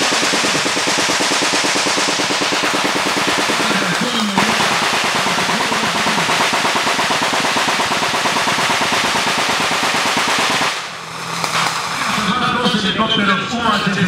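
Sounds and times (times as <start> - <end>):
rapid automatic gunfire: 0.0 - 12.8.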